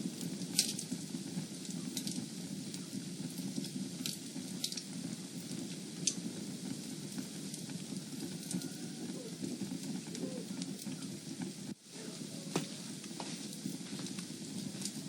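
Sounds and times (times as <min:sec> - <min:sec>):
fire crackling: 0:00.0 - 0:15.0
low rush of flames: 0:00.0 - 0:15.0
sharp pops of fire: 0:00.0 - 0:15.0.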